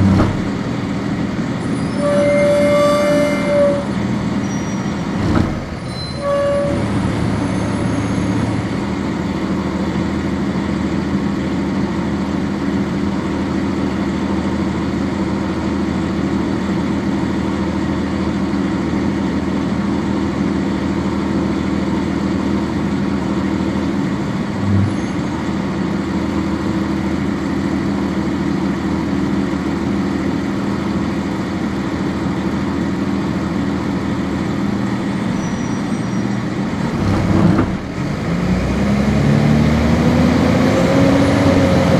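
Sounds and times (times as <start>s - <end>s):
cabin and road noise: 0.0s - 41.9s
diesel bus engine running: 0.0s - 41.9s.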